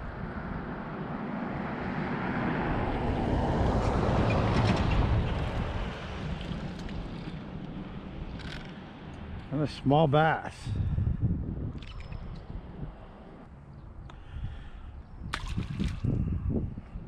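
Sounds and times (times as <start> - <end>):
wind gusting over microphone: 0.0 - 17.0.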